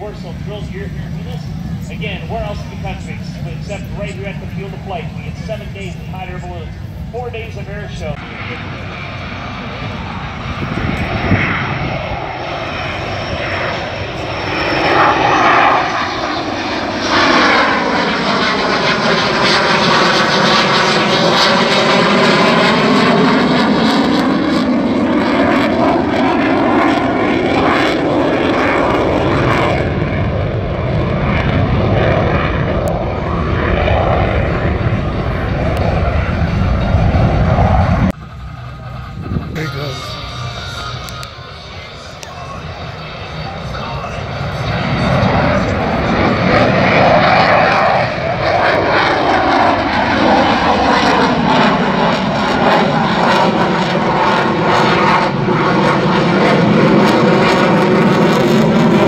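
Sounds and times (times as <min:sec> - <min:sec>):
jet flying overhead: 0:00.0 - 0:59.0.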